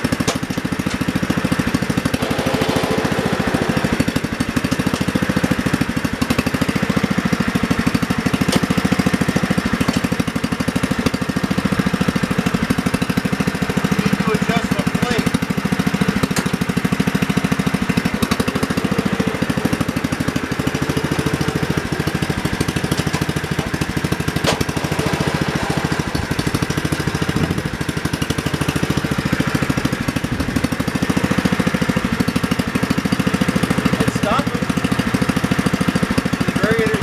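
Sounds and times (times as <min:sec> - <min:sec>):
garden tractor engine running: 0:00.0 - 0:37.0.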